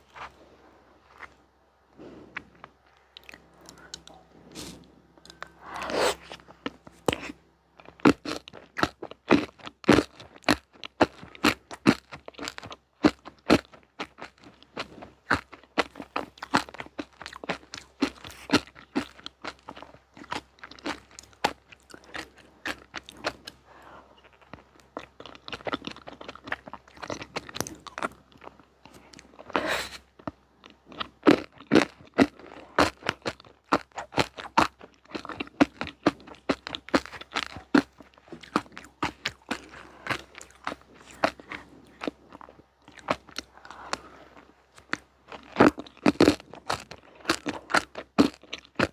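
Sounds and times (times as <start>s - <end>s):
chewing crunchy sweets: 0.0s - 48.9s.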